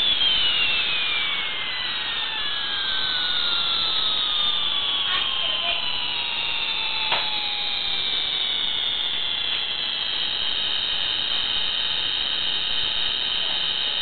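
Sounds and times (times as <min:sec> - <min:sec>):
toy jet engine sound effect: 0:00.0 - 0:14.0.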